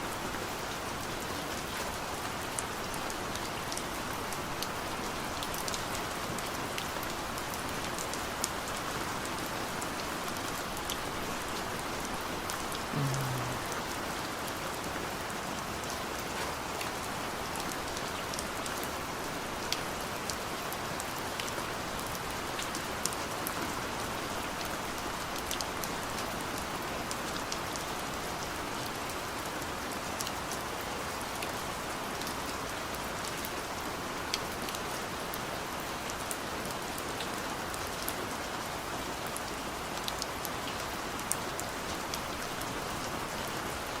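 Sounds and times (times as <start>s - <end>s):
raindrops ticking on surfaces: 0.0s - 44.0s
steady rain falling: 0.0s - 44.0s.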